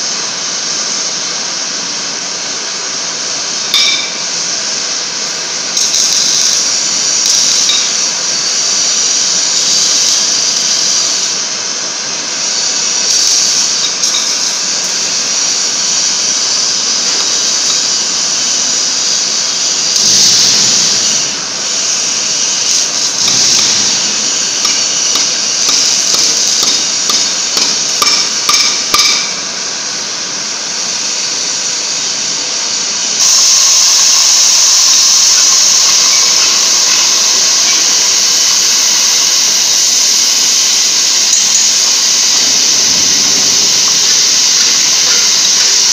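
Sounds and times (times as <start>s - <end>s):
cutting torch flame hissing: 0.0s - 45.9s.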